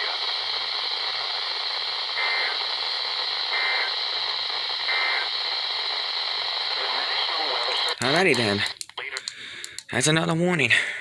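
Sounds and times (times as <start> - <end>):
radio static hissing: 0.0 - 10.3.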